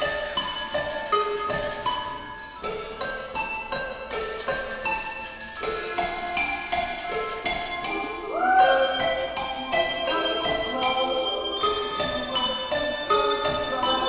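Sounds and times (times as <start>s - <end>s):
handbells playing a melody: 0.0s - 14.0s.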